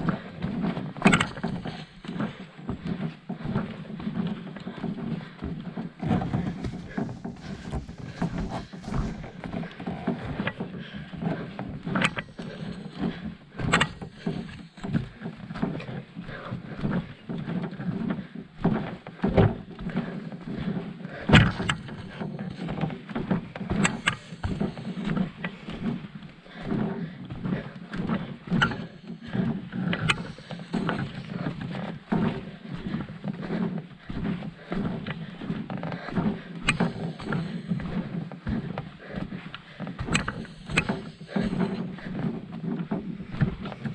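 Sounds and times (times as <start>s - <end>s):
paddle strokes in water: 0.0s - 43.9s.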